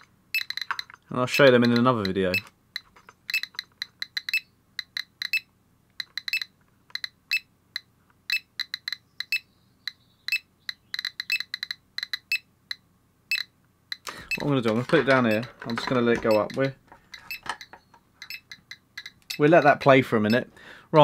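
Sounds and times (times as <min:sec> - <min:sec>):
geiger counter clicking: 0:00.0 - 0:21.0.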